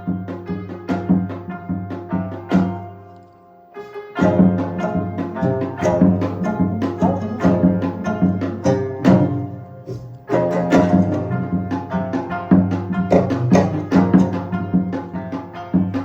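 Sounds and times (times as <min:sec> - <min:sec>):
percussion ensemble music: 0:00.0 - 0:16.0.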